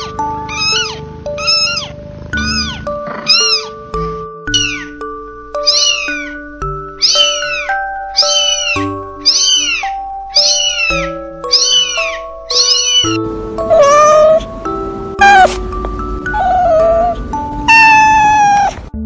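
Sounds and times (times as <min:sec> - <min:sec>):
kitten mewing: 0:00.0 - 0:03.8, 0:04.5 - 0:05.0, 0:05.6 - 0:06.4, 0:07.0 - 0:14.5, 0:15.2 - 0:15.6, 0:16.3 - 0:18.8
slow melodic background music: 0:00.0 - 0:19.0.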